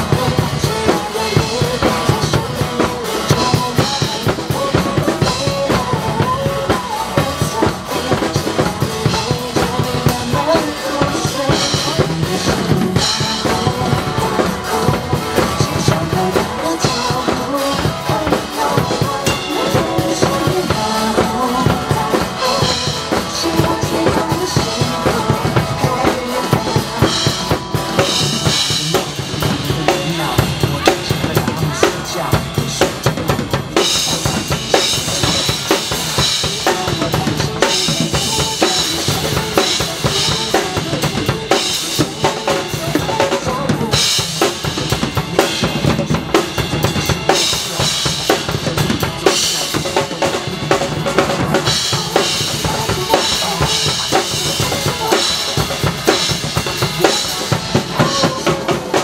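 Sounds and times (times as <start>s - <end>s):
drum kits playing: 0.0s - 59.0s
pop backing track through speakers: 0.0s - 59.0s.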